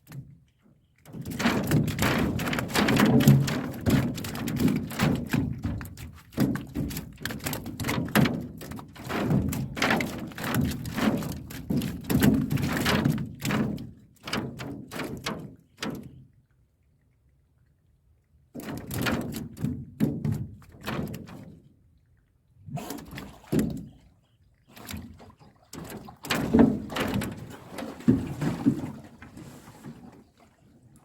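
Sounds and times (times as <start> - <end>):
knocks and thuds in a boat: 0.0 - 16.3, 18.5 - 21.7, 22.8 - 30.7.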